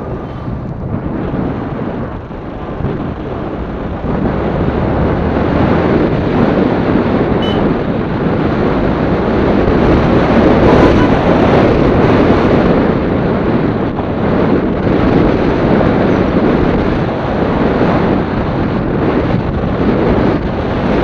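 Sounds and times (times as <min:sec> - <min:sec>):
motorcycle engine: 0:00.0 - 0:21.0
road noise: 0:00.0 - 0:21.0
wind on microphone: 0:00.0 - 0:21.0.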